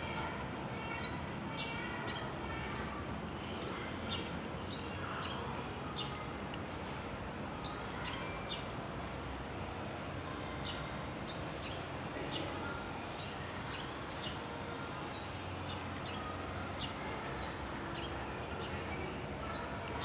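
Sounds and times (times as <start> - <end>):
steady background noise: 0.0 - 20.0
small birds chirping: 0.1 - 8.8, 9.7 - 20.0.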